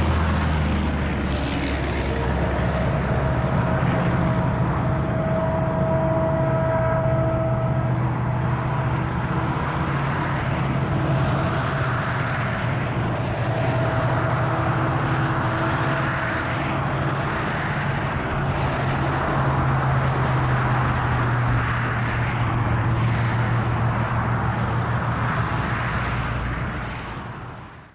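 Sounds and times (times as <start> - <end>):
freight train wheels rumbling on rail: 0.0 - 27.9.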